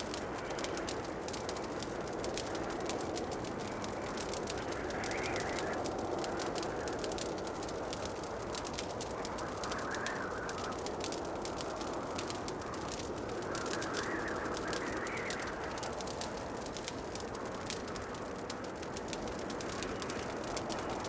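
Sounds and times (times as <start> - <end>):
soft steady rushing: 0.0 - 21.0
wood fire crackling: 0.0 - 21.0.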